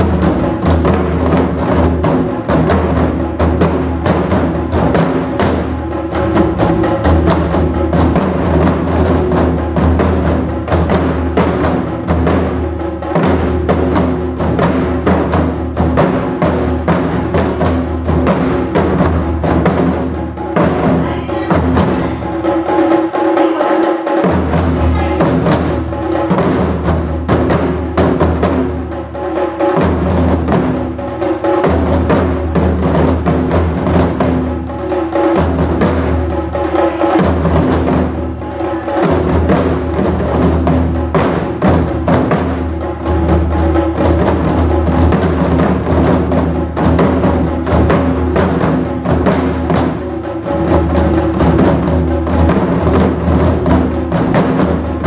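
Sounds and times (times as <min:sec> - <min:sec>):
taiko drum strikes: 0:00.0 - 0:55.0.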